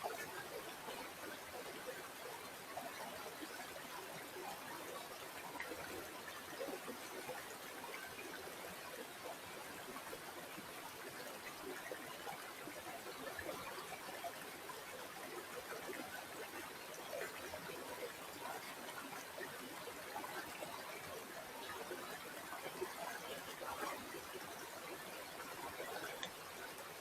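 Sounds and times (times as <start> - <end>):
river water babbling over stones: 0.0 - 27.0.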